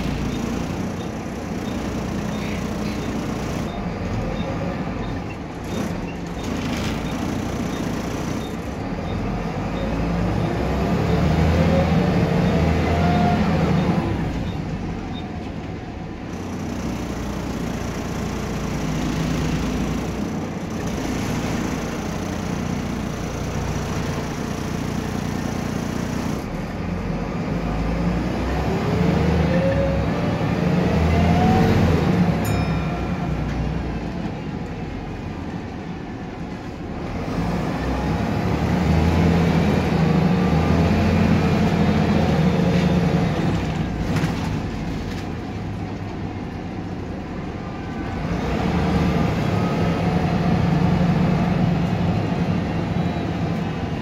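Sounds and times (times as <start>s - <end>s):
bus diesel engine accelerating: 0.0s - 54.0s.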